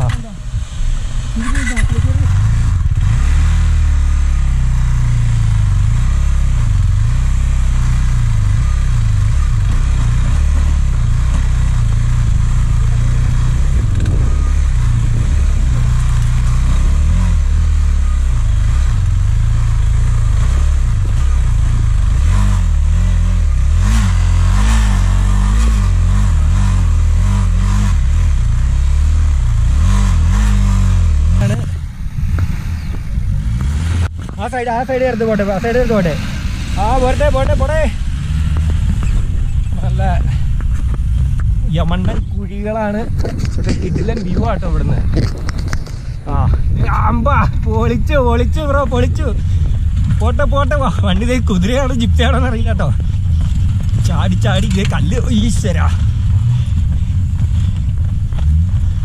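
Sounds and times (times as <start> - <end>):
vehicle engine revving under load: 0.0 - 46.8, 47.4 - 59.0
heavy low rumble: 0.0 - 59.0.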